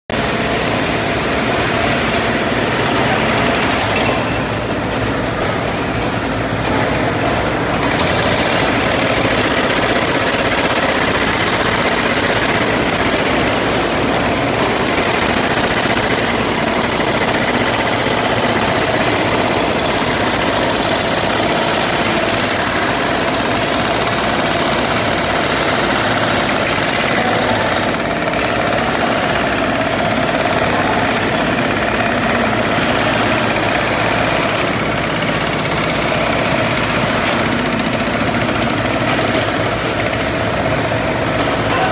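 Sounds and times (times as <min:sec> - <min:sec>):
machine engines running: 0:00.1 - 0:41.9
concrete breakers hammering: 0:00.2 - 0:41.9.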